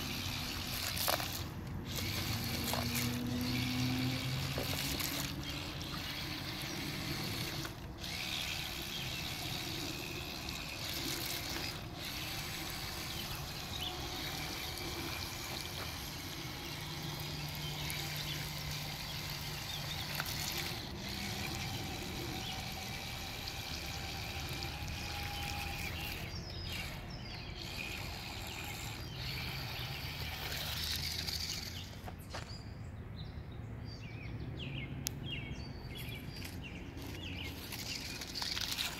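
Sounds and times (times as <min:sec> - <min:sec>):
toy car splashing through water: 0:00.0 - 0:27.0, 0:27.6 - 0:31.9, 0:37.0 - 0:38.9.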